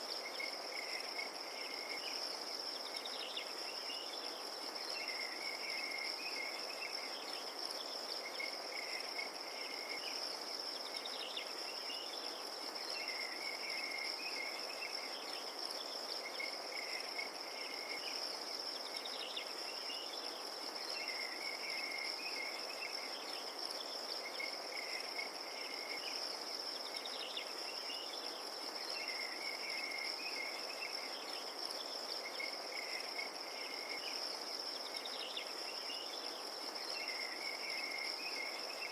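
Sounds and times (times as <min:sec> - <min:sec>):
crickets trilling: 0:00.0 - 0:38.9
night ambience hiss: 0:00.0 - 0:38.9.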